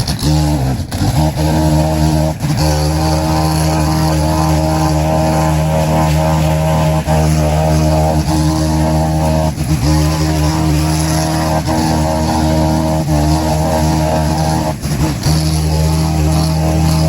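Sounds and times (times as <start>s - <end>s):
engine droning hum: 0.0s - 17.0s.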